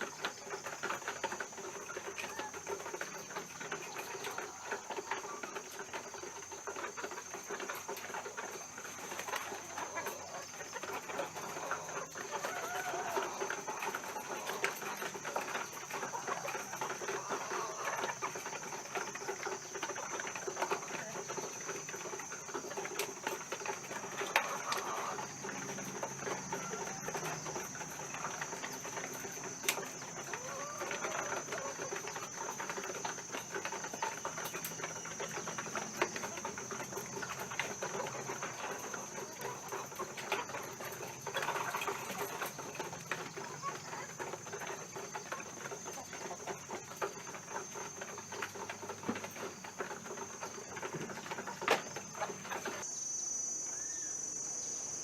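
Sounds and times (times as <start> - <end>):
hens clucking: 0.0 - 52.9.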